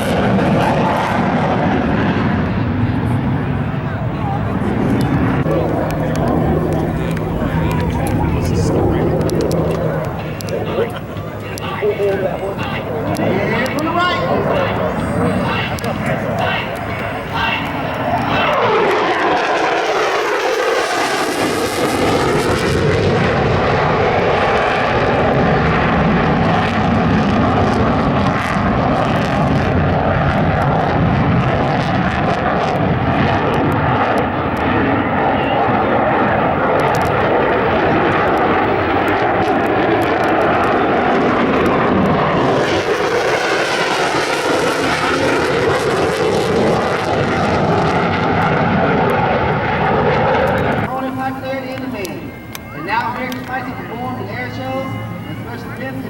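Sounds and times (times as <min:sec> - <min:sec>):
jet engine roar: 0:00.0 - 0:56.0.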